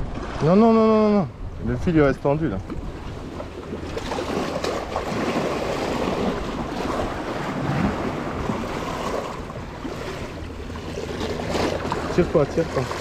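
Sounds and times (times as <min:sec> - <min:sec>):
waves splashing against rocks: 0:02.6 - 0:13.0.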